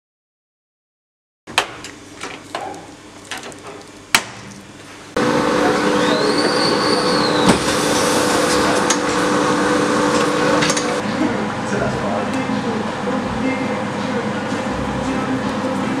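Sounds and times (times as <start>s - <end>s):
printing press humming: 1.5s - 16.0s.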